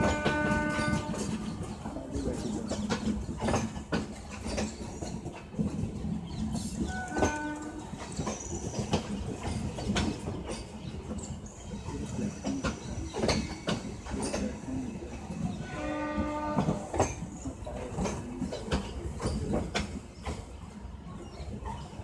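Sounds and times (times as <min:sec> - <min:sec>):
train rumbling on track: 0:00.0 - 0:22.0
wheels clicking over rail joints: 0:00.0 - 0:22.0.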